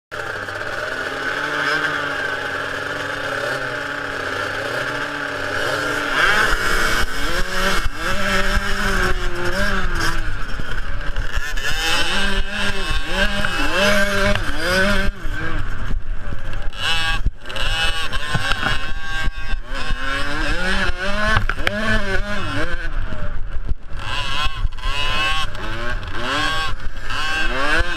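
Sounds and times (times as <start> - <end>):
motocross bike engines revving: 0.1 - 27.9.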